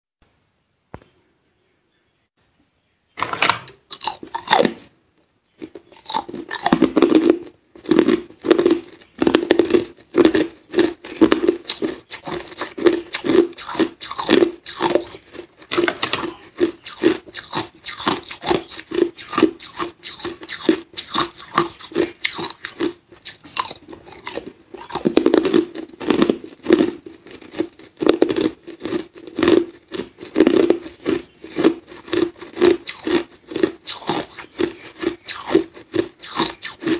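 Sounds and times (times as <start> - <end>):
ice cubes crunching while chewed: 3.2 - 4.9, 5.6 - 36.9.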